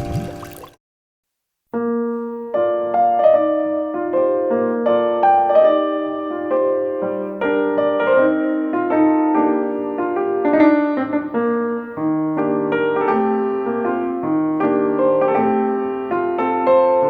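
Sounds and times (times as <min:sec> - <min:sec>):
gentle solo piano piece: 0:01.8 - 0:17.0.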